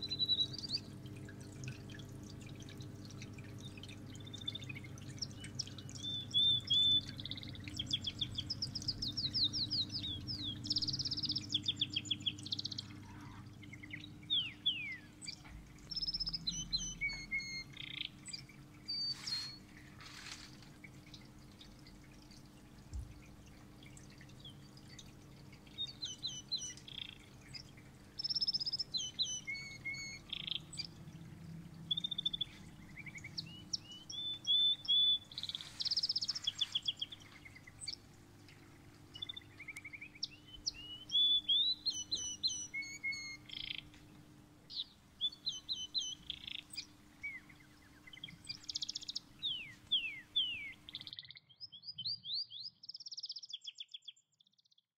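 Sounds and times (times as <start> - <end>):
faint low hum: 0.0 - 51.0
songbirds chirping and trilling: 0.0 - 54.8.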